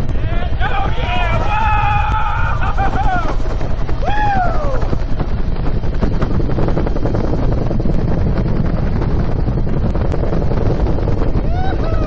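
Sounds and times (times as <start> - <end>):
helicopter rotor and engine: 0.0 - 12.0
wind rushing: 0.0 - 12.0.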